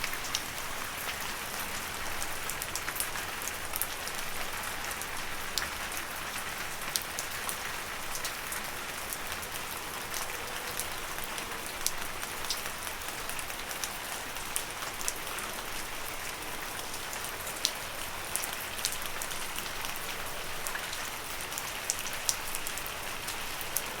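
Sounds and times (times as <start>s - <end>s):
gentle rain on leaves: 0.0s - 24.0s.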